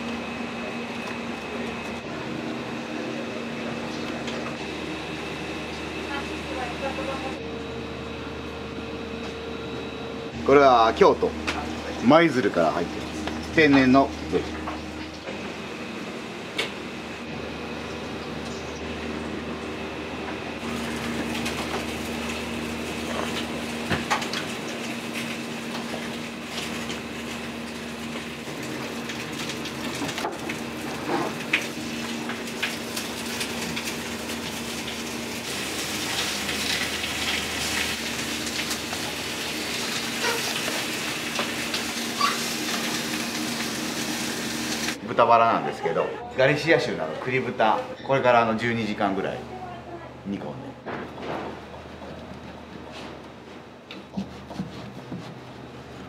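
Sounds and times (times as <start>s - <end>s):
kitchen equipment humming: 0.0s - 56.0s.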